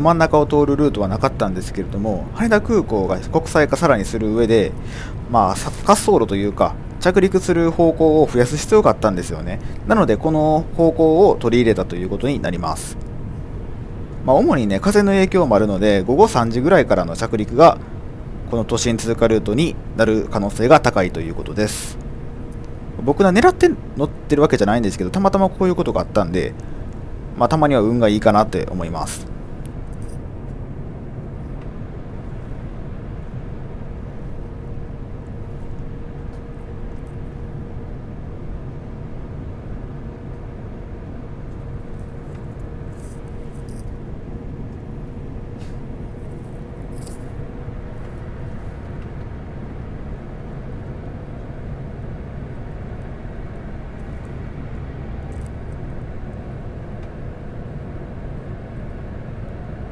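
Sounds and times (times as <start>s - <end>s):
airflow and engines rumbling: 0.0s - 59.9s
faint steady hum: 0.0s - 59.9s.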